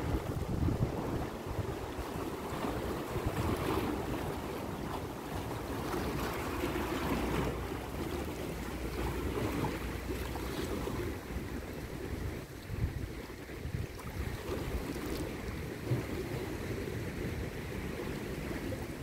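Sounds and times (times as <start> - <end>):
sea water washing: 0.0 - 19.0
wind buffeting microphone: 0.0 - 19.0.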